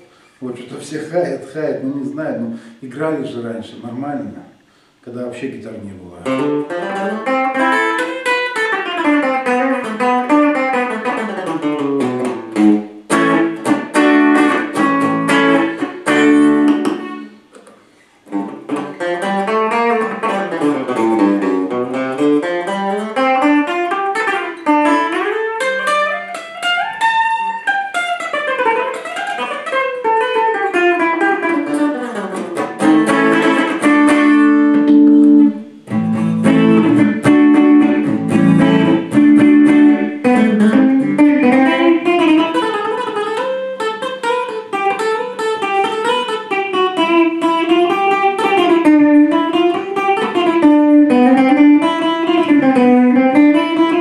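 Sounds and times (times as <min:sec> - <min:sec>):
overdriven electric guitar: 0:06.2 - 0:54.0.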